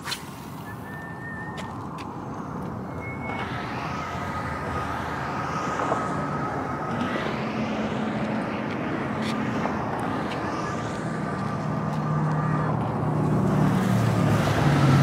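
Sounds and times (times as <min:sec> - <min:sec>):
faint thin whine: 0:00.0 - 0:12.8
distant engine drone: 0:00.0 - 0:15.0.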